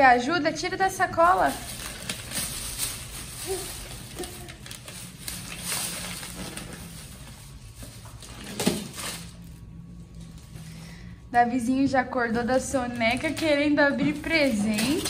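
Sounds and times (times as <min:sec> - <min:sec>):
plastic bag rustling: 0:01.0 - 0:10.8, 0:12.2 - 0:15.0.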